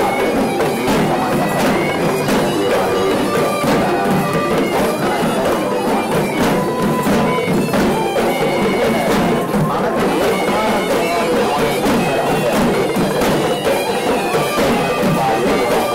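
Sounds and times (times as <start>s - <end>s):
fast drumming: 0.0s - 15.9s
reed pipe melody: 0.0s - 15.9s.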